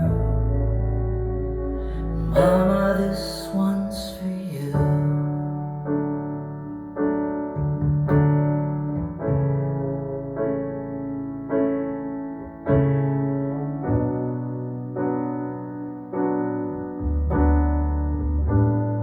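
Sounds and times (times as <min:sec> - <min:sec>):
piano chords ringing out: 0:00.0 - 0:19.0.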